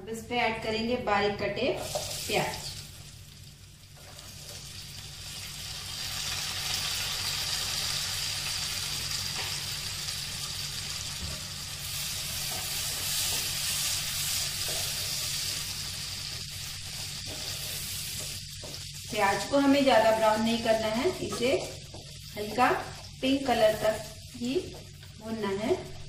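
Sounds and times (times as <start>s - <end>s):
onions sizzling in butter and oil: 1.6s - 25.6s.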